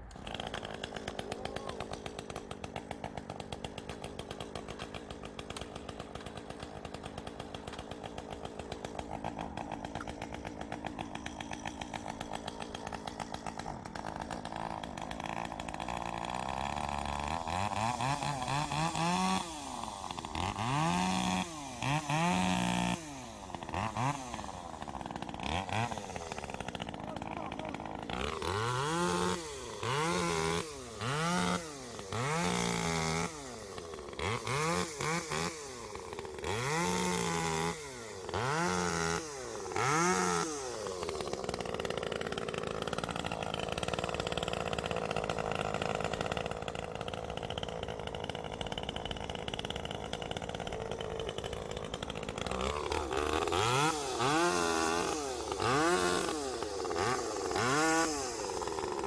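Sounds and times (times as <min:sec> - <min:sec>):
chainsaw cutting wood: 0:00.0 - 0:59.0
chainsaw engine revving: 0:00.0 - 0:59.0.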